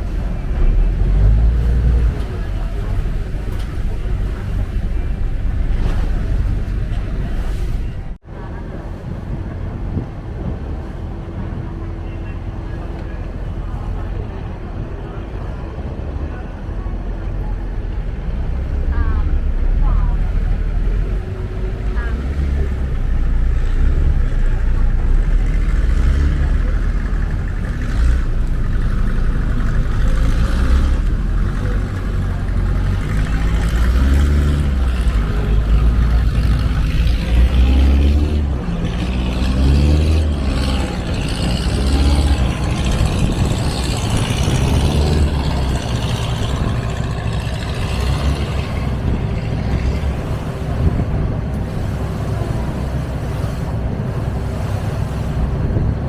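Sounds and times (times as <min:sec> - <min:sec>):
boat engine rumble: 0:00.0 - 0:56.0
water and air noise: 0:00.0 - 0:56.0.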